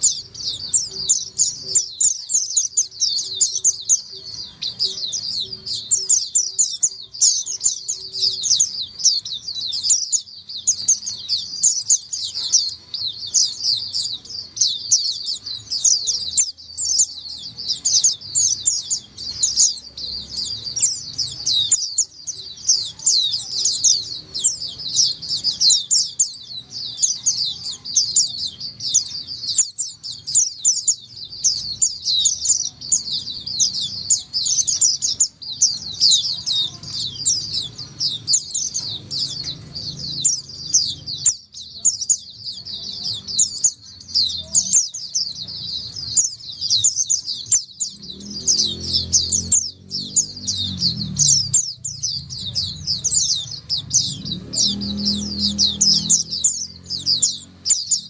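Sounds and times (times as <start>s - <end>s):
birds chirping in chorus: 0.0s - 58.0s.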